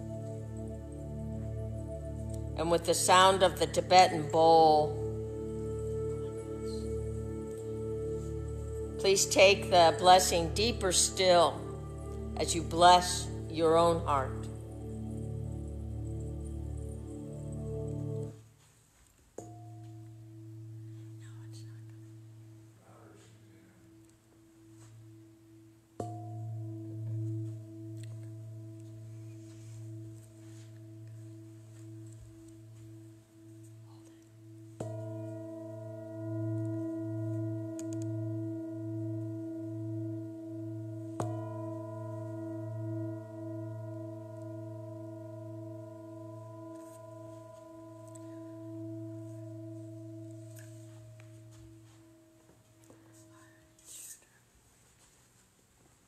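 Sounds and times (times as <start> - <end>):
singing bowl ringing: 0.0 - 18.6, 19.4 - 54.1.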